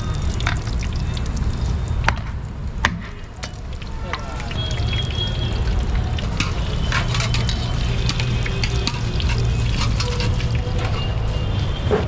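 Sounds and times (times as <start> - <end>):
food deep-frying in oil: 0.0 - 11.7.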